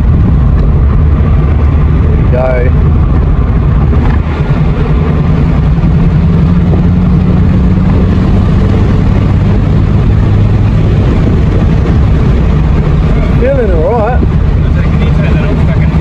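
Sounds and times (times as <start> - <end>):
car engine drone from inside: 0.0 - 16.0
road and wind noise: 0.0 - 16.0.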